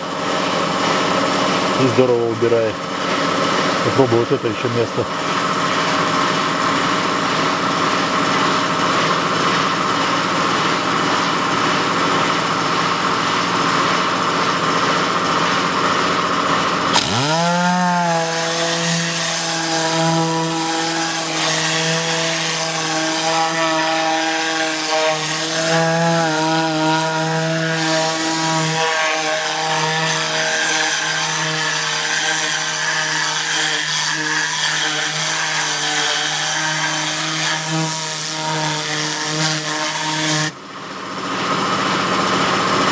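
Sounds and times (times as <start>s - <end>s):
pneumatic cleaning gun buzzing: 0.0s - 42.9s.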